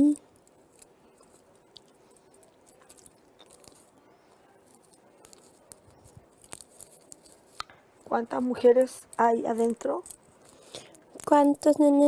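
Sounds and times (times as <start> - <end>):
small clicks and rustles: 0.0 - 12.0.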